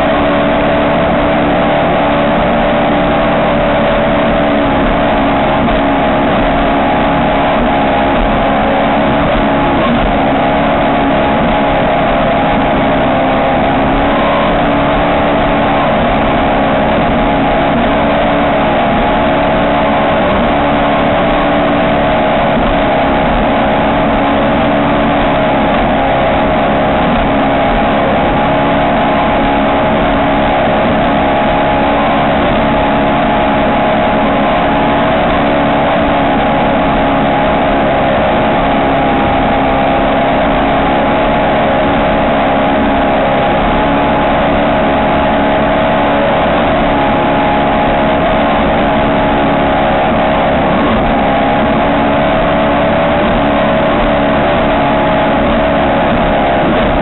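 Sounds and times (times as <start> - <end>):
boat engine running loud: 0.0 - 57.0
continuous rush of noise: 0.0 - 57.0.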